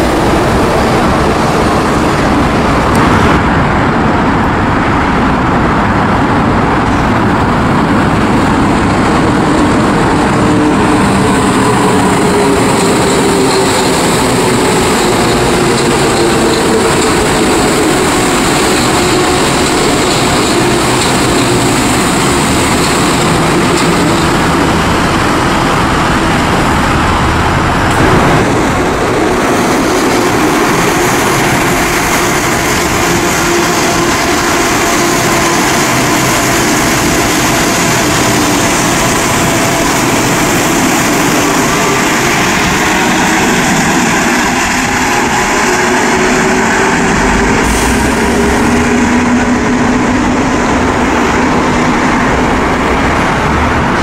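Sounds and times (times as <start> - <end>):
trains rumbling on track: 0.0 - 54.0.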